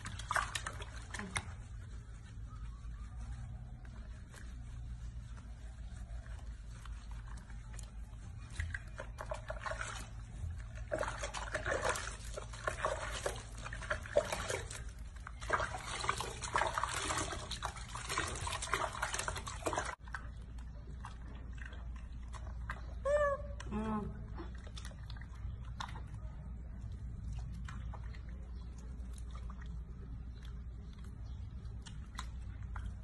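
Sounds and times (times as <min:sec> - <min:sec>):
water splashing in a sink: 0:00.0 - 0:02.2, 0:06.3 - 0:23.0, 0:24.4 - 0:33.0.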